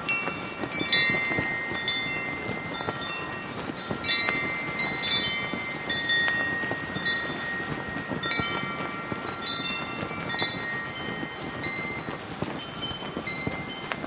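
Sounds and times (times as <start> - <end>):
brass wind chimes ringing: 0.0 - 14.0
flag flapping: 0.0 - 14.0
heavy wind rushing: 0.0 - 14.0.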